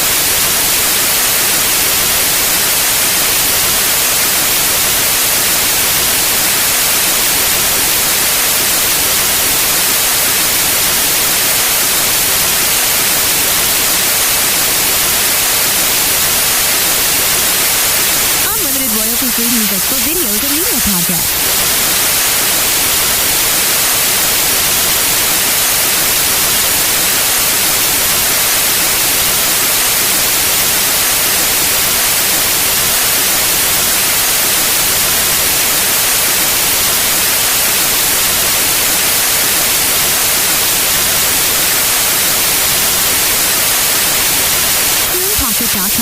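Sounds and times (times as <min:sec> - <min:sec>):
white noise hiss: 0:00.0 - 0:46.0.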